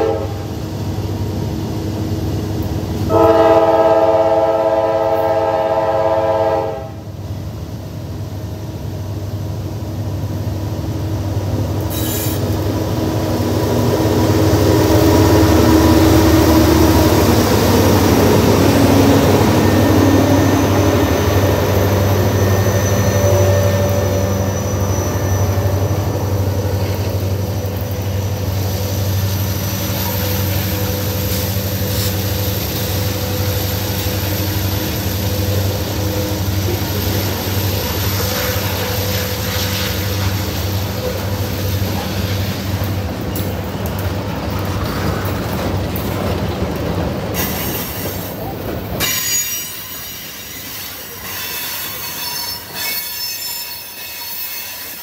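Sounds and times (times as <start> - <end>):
freight cars rumbling on rails: 0.0 - 54.0
diesel locomotives: 0.0 - 55.0.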